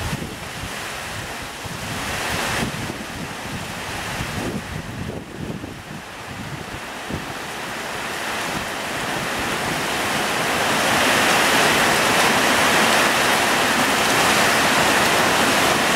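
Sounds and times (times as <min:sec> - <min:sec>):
heavy rain on trees: 0:00.0 - 0:15.9
strong wind: 0:00.0 - 0:15.9.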